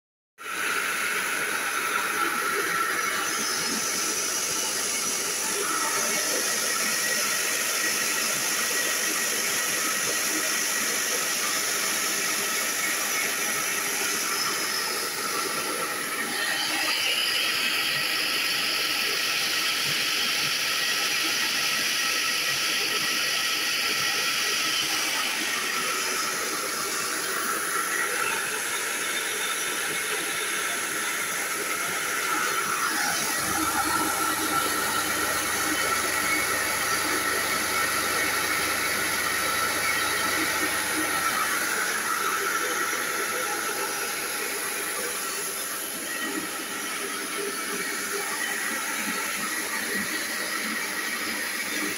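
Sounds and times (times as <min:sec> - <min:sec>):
electric rice mill hissing: 0:00.4 - 0:51.9.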